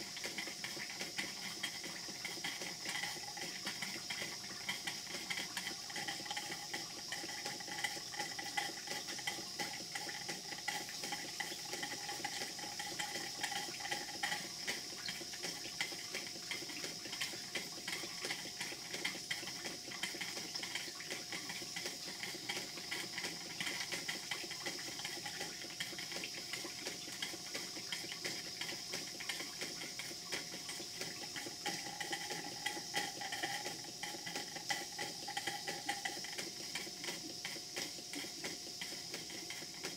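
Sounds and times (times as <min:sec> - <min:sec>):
steam engine ticks and puffs: 0:00.0 - 0:39.9.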